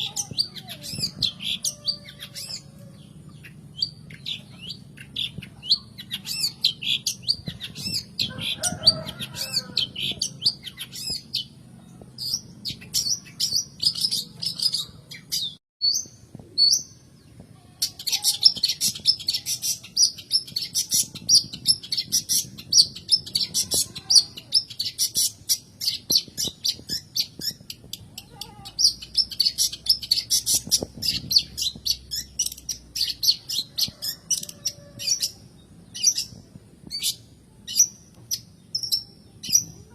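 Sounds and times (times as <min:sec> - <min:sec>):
bird chattering song: 0:00.0 - 0:11.6, 0:17.8 - 0:39.9.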